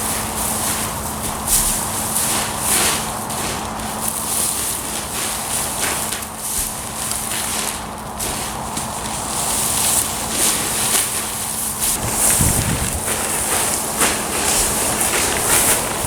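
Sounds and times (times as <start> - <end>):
footsteps: 0.0 - 16.0
steady low hum: 0.0 - 16.0
straw bales rustling and scraping: 0.0 - 16.0.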